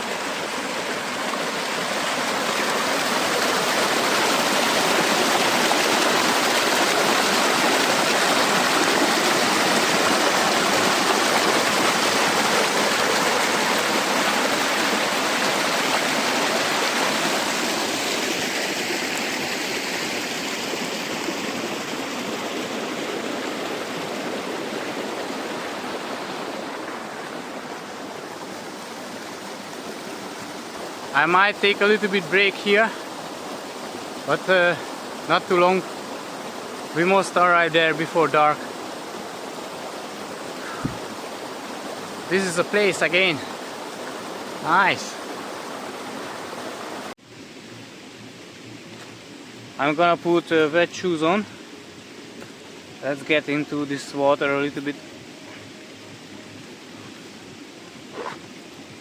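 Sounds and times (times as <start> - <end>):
forest stream rushing: 0.0 - 59.0.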